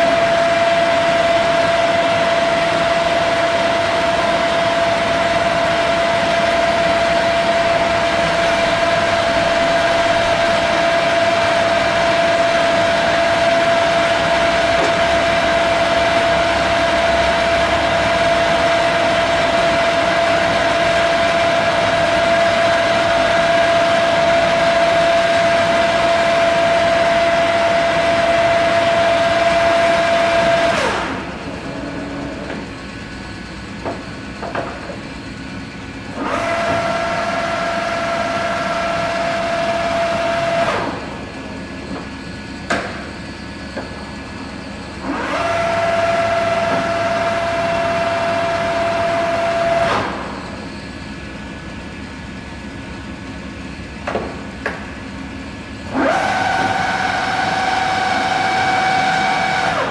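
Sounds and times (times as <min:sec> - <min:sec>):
lathe gear whine: 0:00.0 - 0:59.9.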